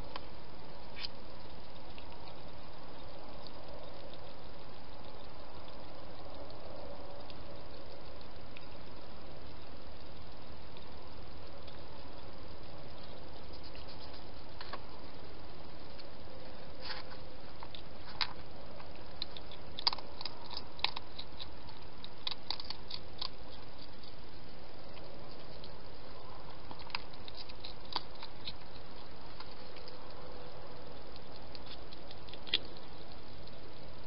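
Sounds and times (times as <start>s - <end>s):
hedgehog crunching food: 0.0s - 34.0s
steady hiss: 0.0s - 34.0s.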